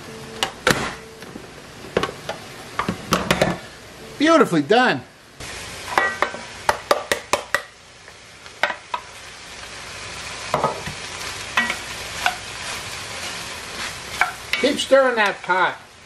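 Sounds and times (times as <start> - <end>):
vegetables sizzling in pot: 0.0 - 16.0.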